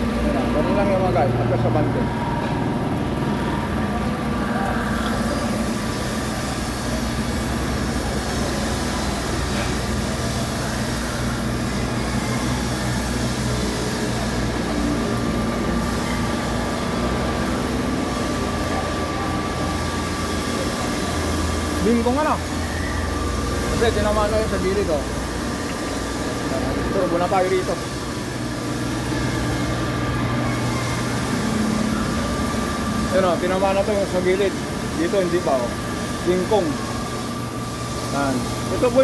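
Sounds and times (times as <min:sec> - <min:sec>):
grinder mechanical rumble: 0:00.0 - 0:39.0
thin steady whine: 0:00.0 - 0:39.0.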